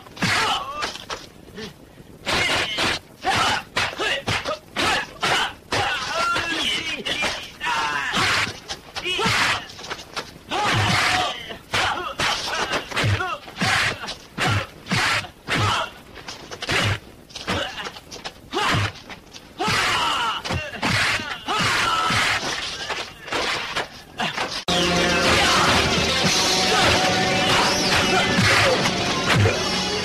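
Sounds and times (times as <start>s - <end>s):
fighters shouting and grunting: 0.0s - 16.0s, 16.6s - 30.0s.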